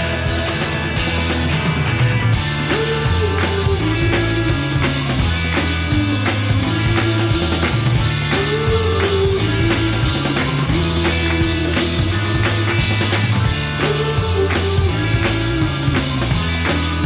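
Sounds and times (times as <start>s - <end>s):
rock music with drums bass and guitar: 0.0s - 17.0s.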